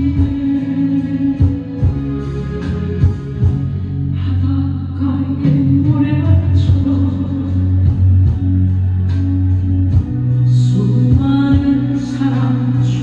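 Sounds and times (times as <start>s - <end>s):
woman singing: 0.0s - 3.5s, 4.1s - 8.5s, 9.9s - 13.0s
instrumental accompaniment: 0.0s - 4.4s, 5.4s - 13.0s.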